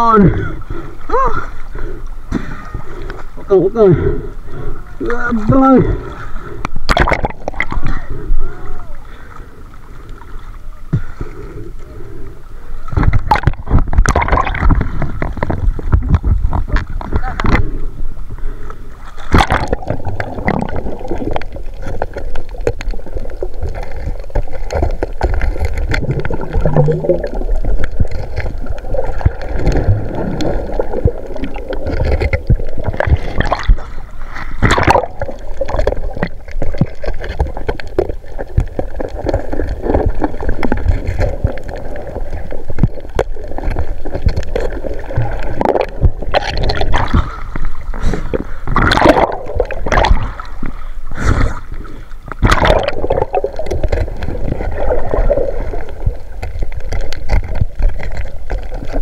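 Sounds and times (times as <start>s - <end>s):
water sloshing and gurgling: 0.0s - 59.0s
water splashes: 0.0s - 59.0s.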